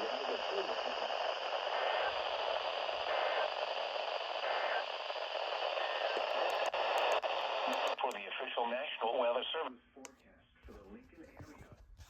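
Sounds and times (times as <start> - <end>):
radio static hiss: 0.0 - 9.8.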